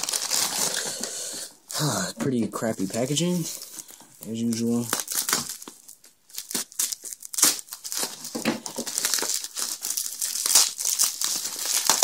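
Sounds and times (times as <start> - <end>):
bubble wrap and tape crinkling: 0.0 - 12.0.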